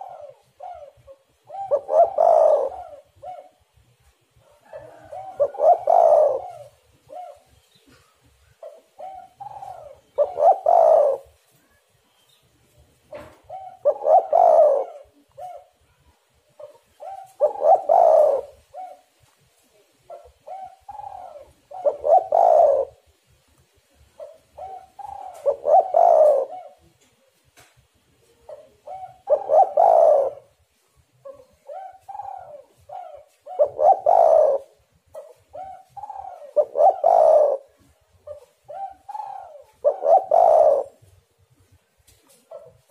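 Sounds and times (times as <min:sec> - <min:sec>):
dove cooing: 0:00.0 - 0:11.8, 0:13.0 - 0:23.2, 0:23.9 - 0:27.3, 0:28.2 - 0:42.9.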